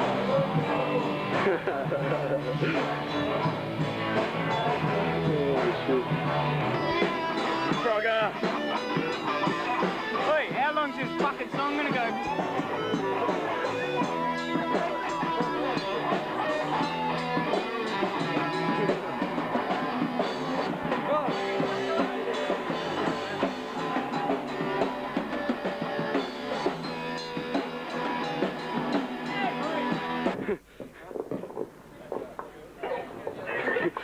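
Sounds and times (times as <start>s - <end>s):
rock music with drums and guitar: 0.0s - 30.5s.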